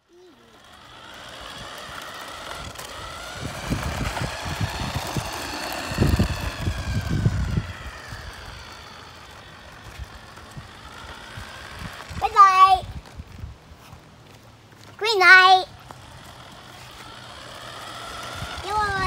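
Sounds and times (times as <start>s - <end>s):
toy truck motor whining: 0.0s - 13.2s, 15.1s - 19.0s.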